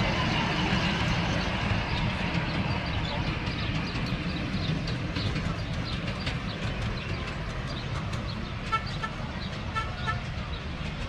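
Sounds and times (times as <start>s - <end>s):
miniature train rumbling on track: 0.0s - 11.0s.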